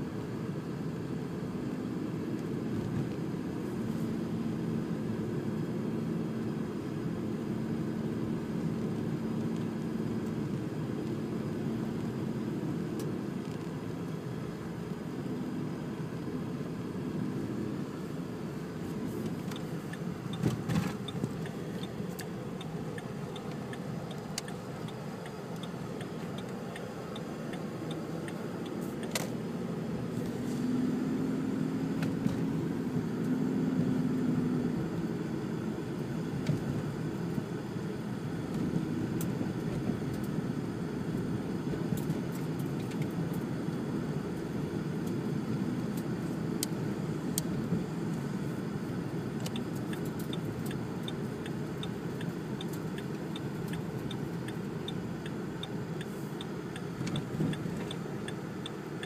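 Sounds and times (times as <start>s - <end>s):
engine and tyres rumbling: 0.0s - 59.0s.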